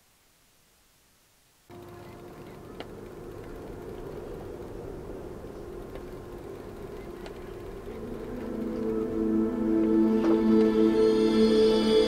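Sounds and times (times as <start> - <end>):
boat engine humming: 1.7 - 12.0.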